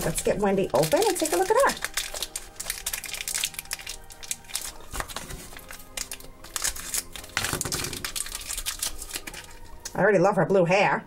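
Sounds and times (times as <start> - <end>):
plastic bag crinkling: 0.0 - 9.9
soft background music: 0.0 - 11.0.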